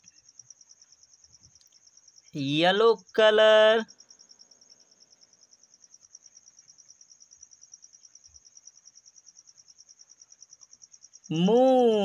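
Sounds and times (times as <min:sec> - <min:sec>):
cricket chirping trill: 0:00.0 - 0:12.0.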